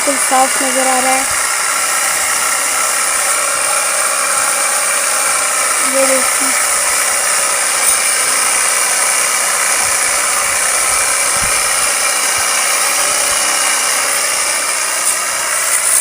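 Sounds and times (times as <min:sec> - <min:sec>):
pressure washer spraying: 0:00.0 - 0:16.0.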